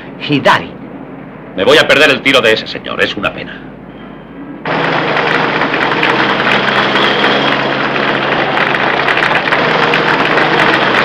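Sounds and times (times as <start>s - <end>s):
dense city traffic: 0.0s - 11.0s.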